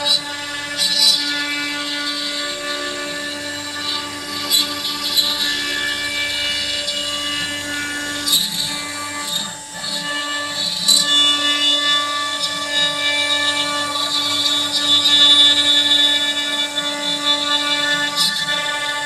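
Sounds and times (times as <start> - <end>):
router spindle whining milling wood: 0.0 - 19.0.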